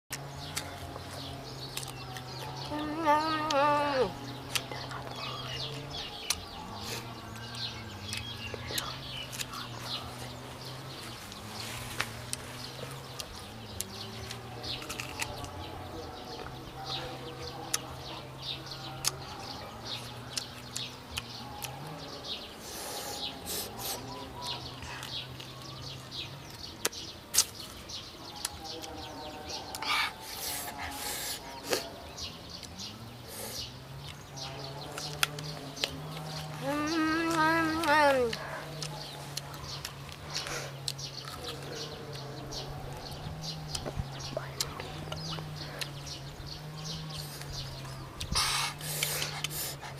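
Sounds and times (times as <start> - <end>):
crunching and chewing mango: 0.1 - 33.2, 33.8 - 49.9.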